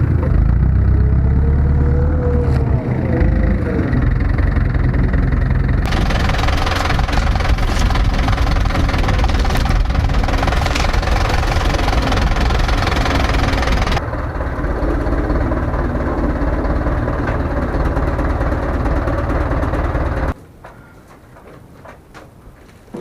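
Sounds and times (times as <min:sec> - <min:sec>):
engine running loudly: 0:00.0 - 0:20.4.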